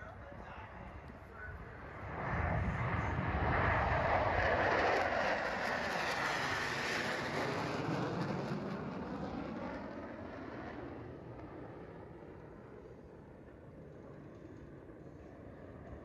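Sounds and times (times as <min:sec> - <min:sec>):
military jets flying past: 0:00.0 - 0:16.0.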